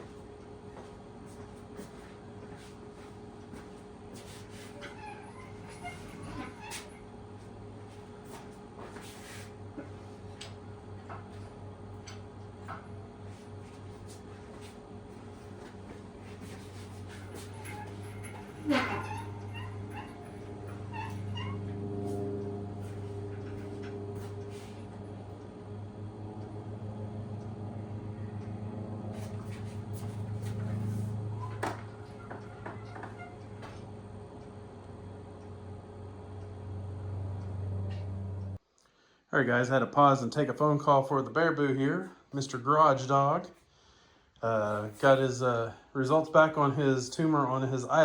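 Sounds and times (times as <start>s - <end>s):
steady low hum: 0.0s - 38.6s.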